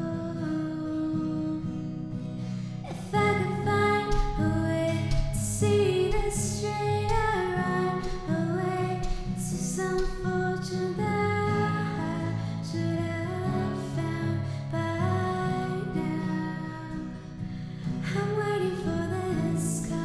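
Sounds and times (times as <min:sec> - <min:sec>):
acoustic guitar: 0:00.0 - 0:20.0
woman singing slow song: 0:00.0 - 0:20.0.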